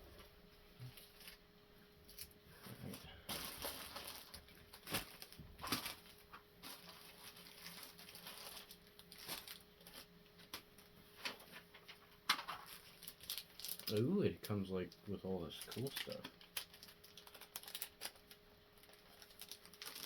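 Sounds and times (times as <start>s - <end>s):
packaging rustling: 2.0s - 14.1s, 15.5s - 20.0s.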